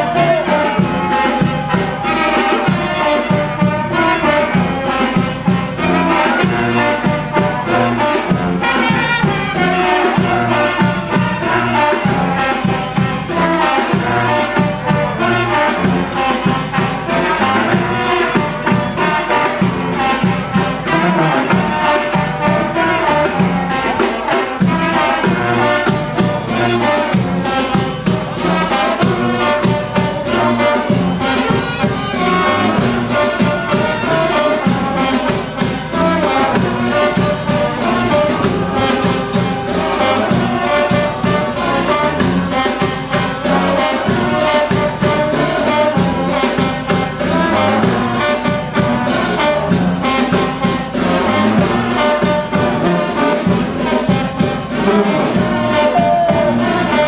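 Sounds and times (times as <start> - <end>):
brass band playing dance music: 0.0 - 57.0.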